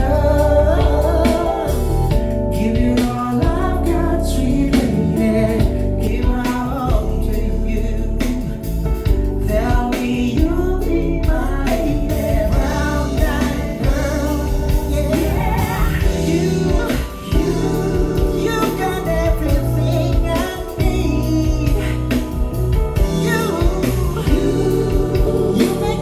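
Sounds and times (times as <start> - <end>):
song with heavy bass: 0.0 - 26.0.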